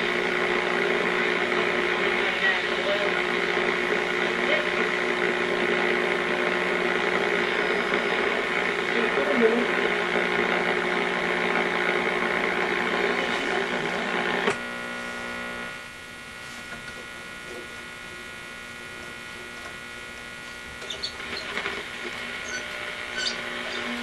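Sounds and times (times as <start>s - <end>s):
radio static and hiss: 0.0s - 24.0s.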